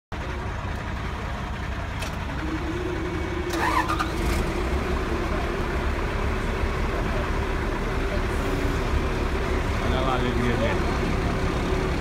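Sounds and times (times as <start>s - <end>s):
diesel engine idling: 0.1s - 12.0s.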